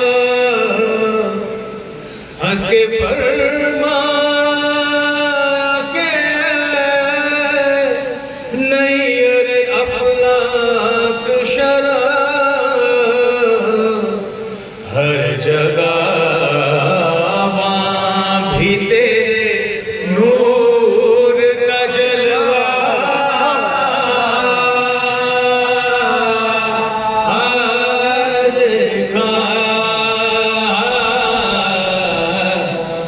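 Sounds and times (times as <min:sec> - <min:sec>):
men chanting unaccompanied: 0:02.4 - 0:33.0.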